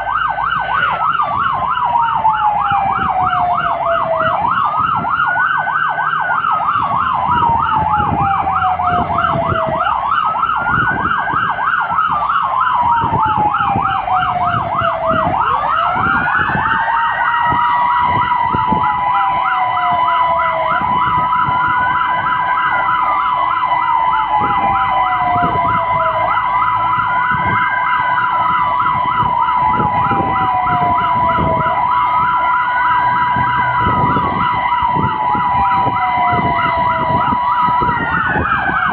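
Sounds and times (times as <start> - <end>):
fire engine sirens: 0.0 - 38.9
steady high siren tone: 0.0 - 38.9.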